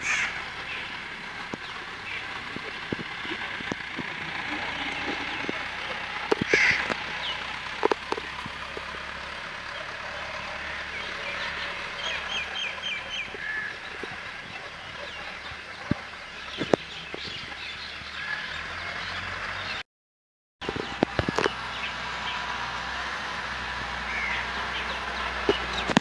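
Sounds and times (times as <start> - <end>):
birds chirping: 0.0 - 19.8, 20.6 - 26.0
outdoor background noise: 0.0 - 19.8, 20.6 - 26.0.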